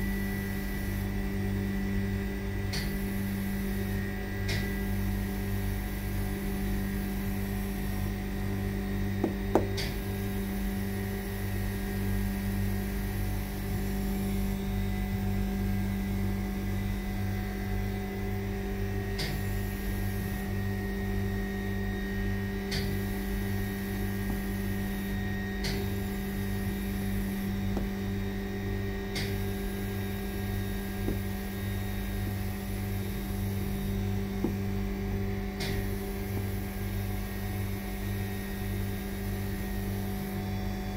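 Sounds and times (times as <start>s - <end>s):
machinery electrical hum: 0.0s - 40.9s.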